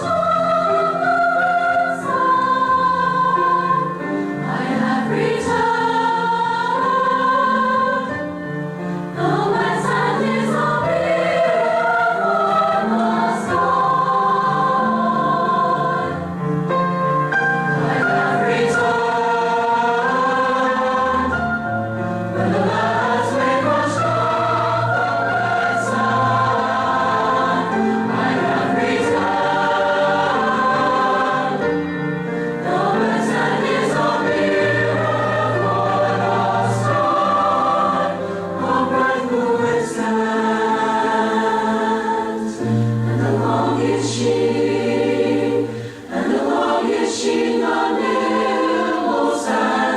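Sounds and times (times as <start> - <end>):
choir singing in parts: 0.0 - 49.9.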